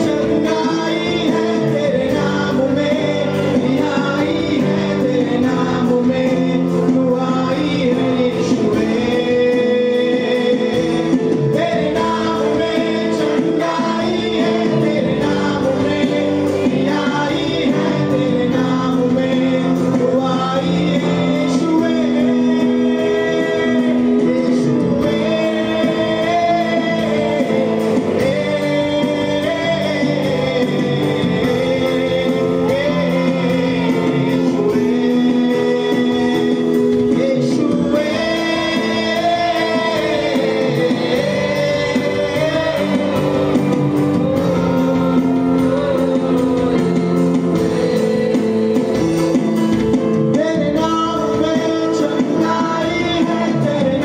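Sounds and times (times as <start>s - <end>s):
instrumental accompaniment: 0.0s - 54.0s
man and congregation singing: 0.0s - 54.0s.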